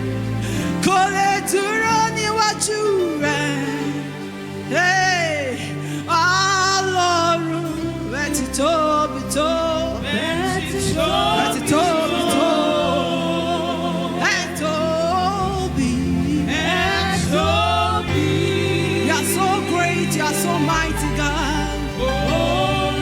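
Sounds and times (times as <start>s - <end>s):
sustained keyboard chords: 0.0s - 23.0s
voices singing gospel: 0.0s - 23.0s.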